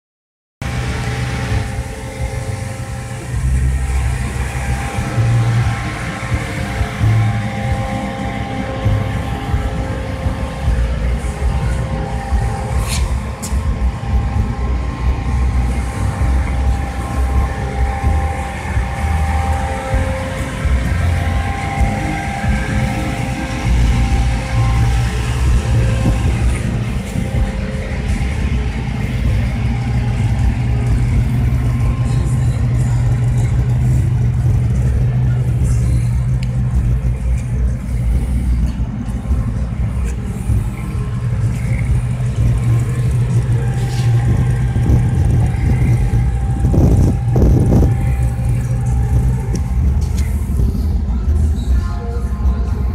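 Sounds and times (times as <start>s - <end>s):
car engine exhaust rumble: 0.6s - 52.9s.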